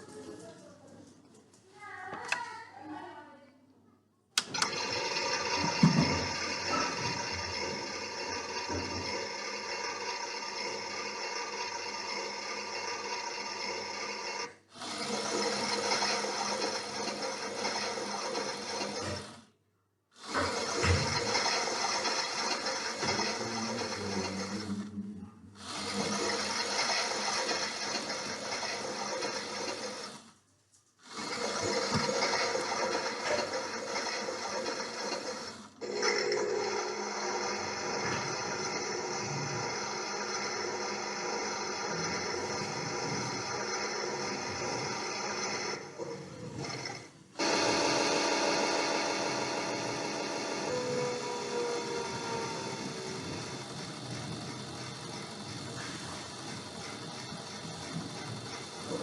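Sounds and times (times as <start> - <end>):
toy washing machine whirring: 0.0 - 2.6, 4.4 - 59.0.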